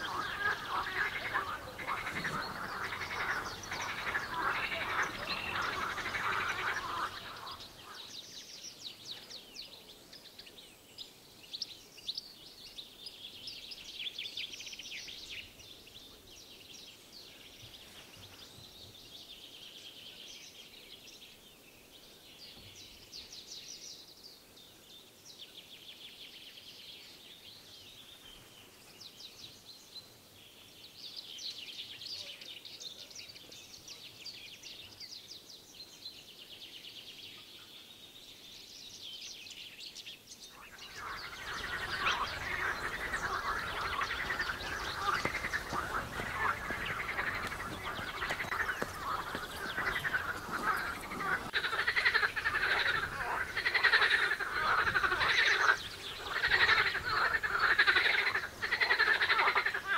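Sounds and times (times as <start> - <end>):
faint outdoor hiss: 0.0 - 59.9
songbirds singing: 0.0 - 59.9.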